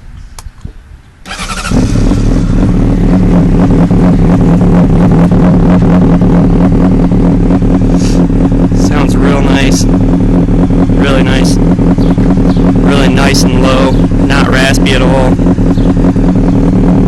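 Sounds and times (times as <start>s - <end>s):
motorcycle engine idling loudly: 1.3s - 17.0s.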